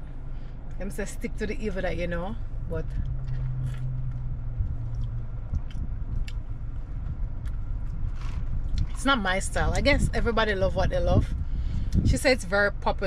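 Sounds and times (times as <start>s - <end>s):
low rumble in car cabin: 0.0s - 13.0s.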